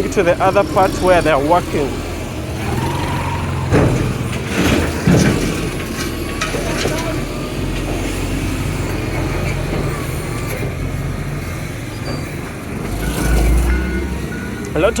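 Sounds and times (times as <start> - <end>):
heavy vehicle engine humming: 0.0 - 15.0
traffic noise: 0.0 - 15.0.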